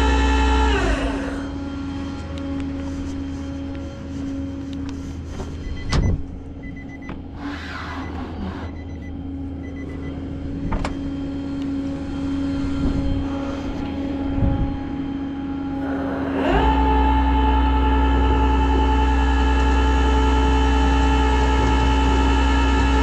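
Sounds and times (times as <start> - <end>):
vehicle engine droning: 0.0 - 23.0.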